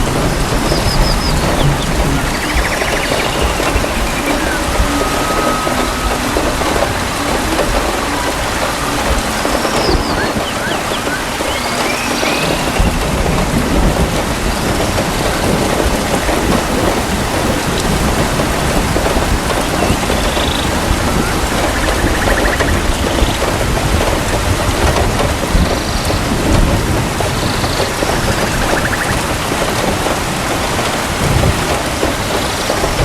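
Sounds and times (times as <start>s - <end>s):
heavy rain: 0.0s - 33.0s
thunder rumbling: 0.0s - 33.0s.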